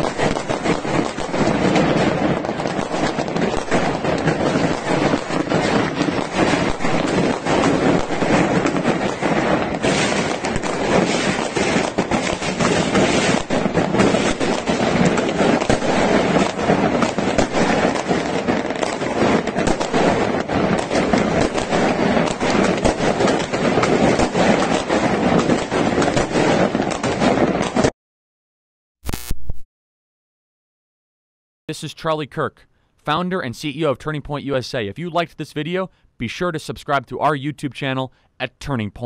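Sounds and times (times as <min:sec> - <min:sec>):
fireworks crackling and banging: 0:00.0 - 0:27.9, 0:31.8 - 0:39.0.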